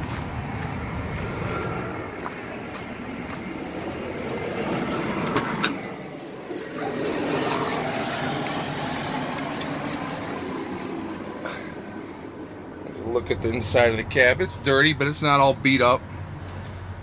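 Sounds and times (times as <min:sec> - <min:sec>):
rushing vehicle noise: 0:00.0 - 0:17.0.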